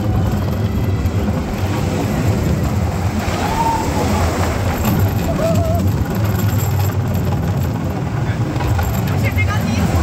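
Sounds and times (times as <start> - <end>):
roller coaster rumbling on track: 0.0 - 10.0.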